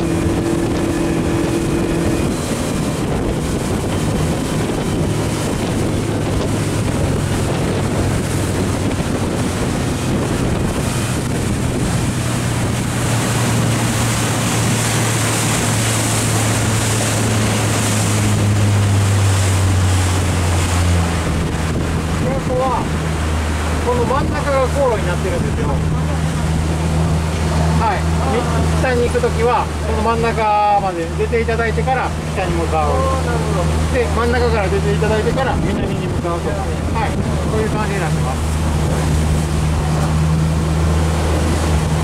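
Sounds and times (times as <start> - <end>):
motorboat engine running: 0.0 - 42.0
water rushing past hull: 0.0 - 42.0
wind buffeting microphone: 0.0 - 42.0.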